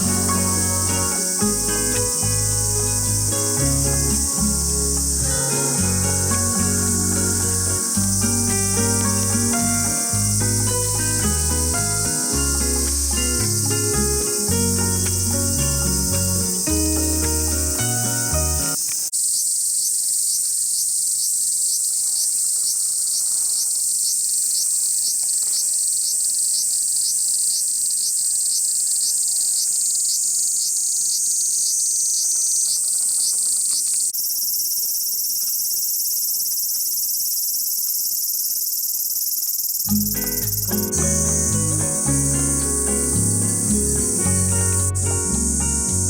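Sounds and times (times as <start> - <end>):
cicadas singing in chorus: 0.0 - 46.0.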